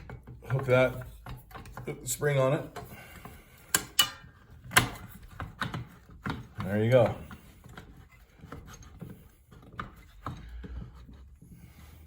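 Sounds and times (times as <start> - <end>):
headlight parts clicking and rubbing: 0.0 - 12.0.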